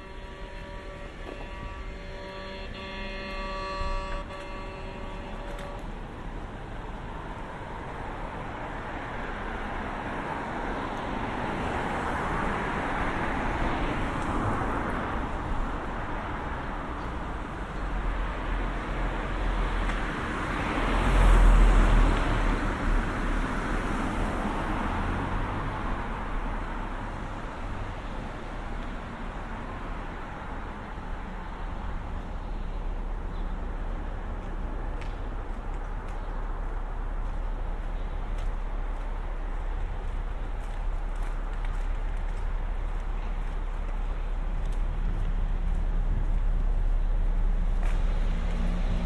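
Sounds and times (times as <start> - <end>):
vehicles passing with tyre noise: 0.0 - 49.0.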